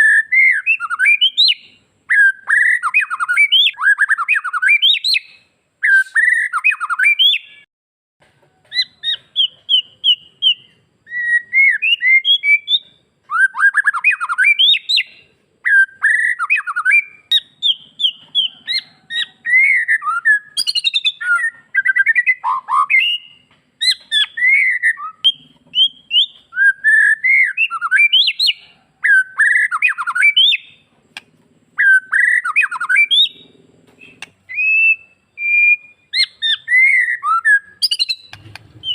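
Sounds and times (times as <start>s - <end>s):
songbird singing whistled phrases: 0.0s - 7.7s, 8.6s - 38.9s.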